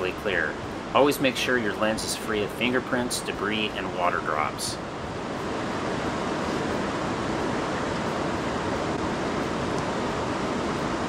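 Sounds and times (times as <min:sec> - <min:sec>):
river rushing over riffles: 0:00.0 - 0:11.0.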